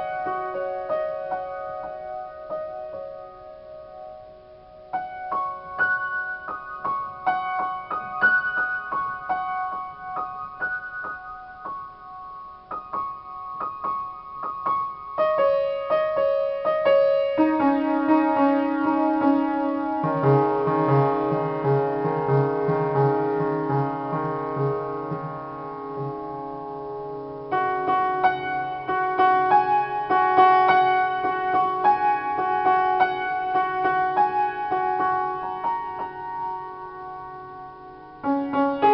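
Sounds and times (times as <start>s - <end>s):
piano playing: 0.0s - 38.9s.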